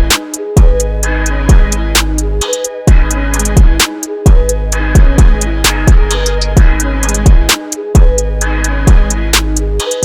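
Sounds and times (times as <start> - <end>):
hip-hop music with bass and hi-hats: 0.0 - 10.0.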